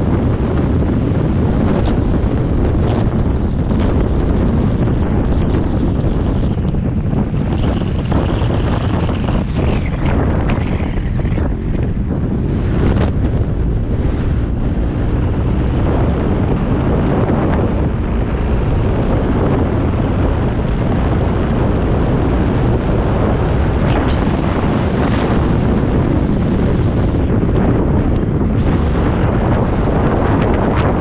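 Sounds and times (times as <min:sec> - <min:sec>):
ride noise: 0:00.0 - 0:31.0
wind buffeting microphone: 0:00.0 - 0:31.0.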